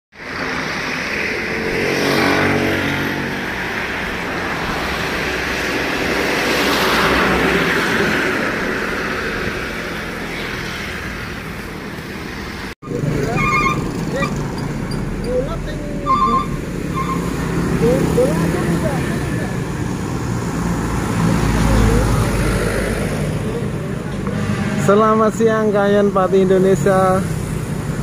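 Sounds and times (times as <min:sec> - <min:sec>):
vehicles passing by: 0:00.1 - 0:28.0.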